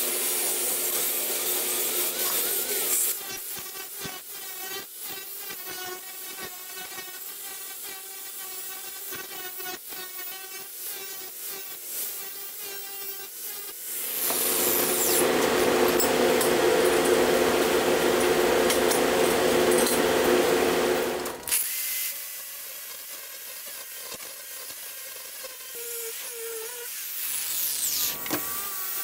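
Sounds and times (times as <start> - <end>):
angle grinder grinding metal: 0.0 - 29.0.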